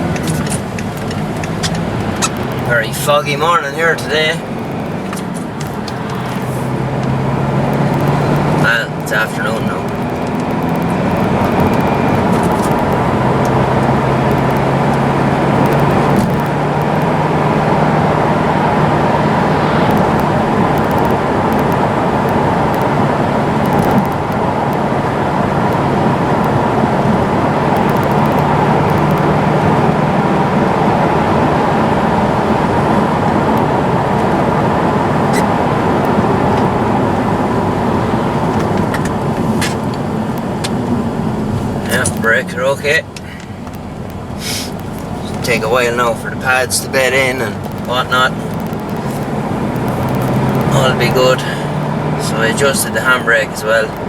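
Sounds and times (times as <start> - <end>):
car engine running: 0.0 - 54.0
tyre and road noise: 0.0 - 54.0.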